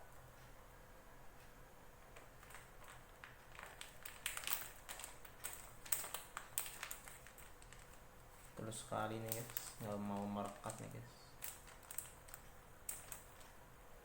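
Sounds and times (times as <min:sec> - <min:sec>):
plastic bag crinkling: 0:02.1 - 0:13.6.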